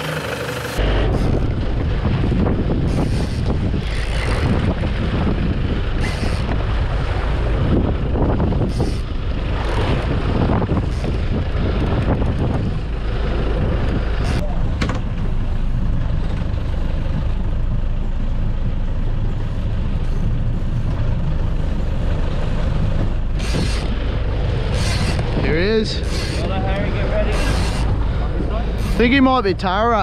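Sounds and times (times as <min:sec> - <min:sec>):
boat engine rumble: 0:00.0 - 0:30.0
wind buffeting microphone: 0:00.8 - 0:17.9, 0:20.2 - 0:29.7.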